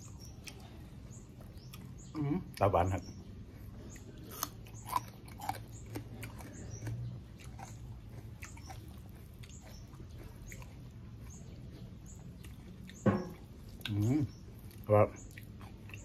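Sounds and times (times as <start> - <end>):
person chewing food: 0.0 - 2.2, 3.2 - 16.0.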